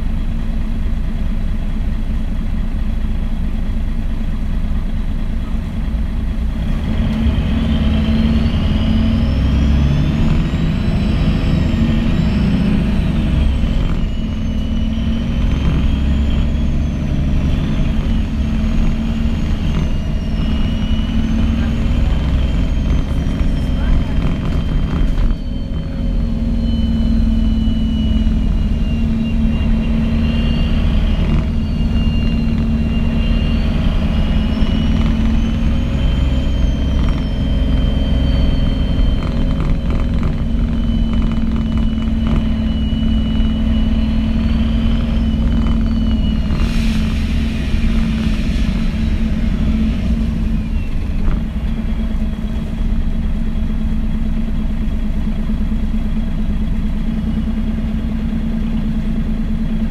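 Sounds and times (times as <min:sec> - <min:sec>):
bus diesel engine drone: 0:00.0 - 0:59.9
gearbox whine: 0:05.0 - 0:59.9.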